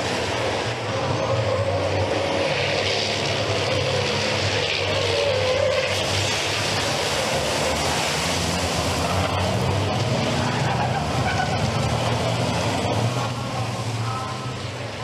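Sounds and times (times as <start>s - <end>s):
truck engines running at speed: 0.0s - 15.0s.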